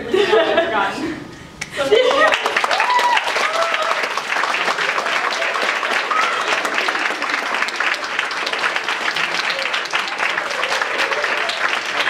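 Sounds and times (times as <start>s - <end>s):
audience clapping: 2.0s - 12.0s.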